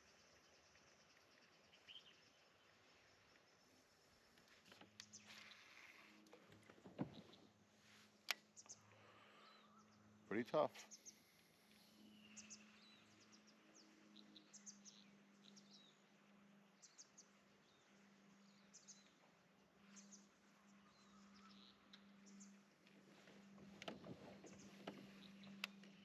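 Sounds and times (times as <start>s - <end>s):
faint bird chirps: 0.0s - 6.4s, 7.0s - 19.2s, 19.8s - 26.0s.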